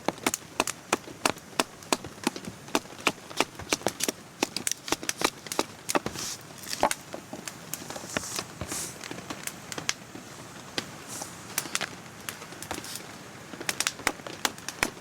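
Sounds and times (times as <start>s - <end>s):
campfire crackling and popping: 0.0s - 15.0s
fire hissing: 0.2s - 15.0s.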